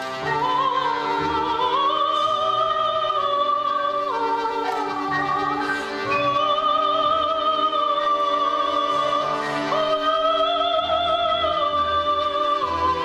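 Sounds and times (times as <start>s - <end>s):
accordions playing sustained chords: 0.0s - 13.0s
woman singing operatically: 0.0s - 13.0s.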